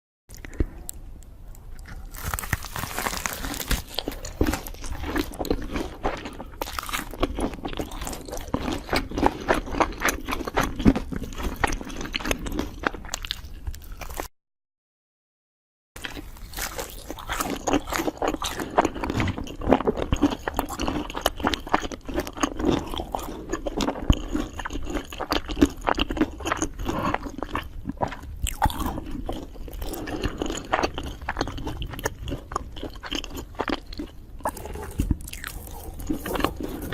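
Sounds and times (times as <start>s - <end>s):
person chewing and crunching food: 0.3s - 14.3s, 16.0s - 36.9s.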